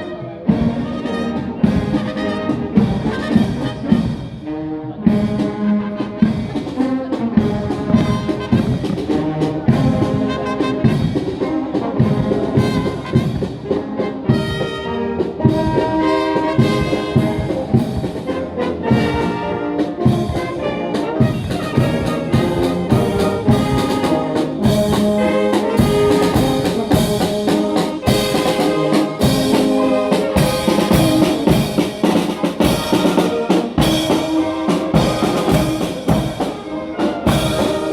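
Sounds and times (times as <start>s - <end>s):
trumpets and trombones: 0.0s - 37.9s
steady drum beat: 6.2s - 37.9s.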